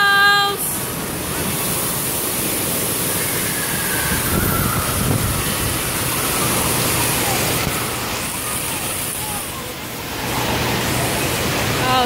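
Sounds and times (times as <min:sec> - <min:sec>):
falling water splashing: 0:00.6 - 0:12.0.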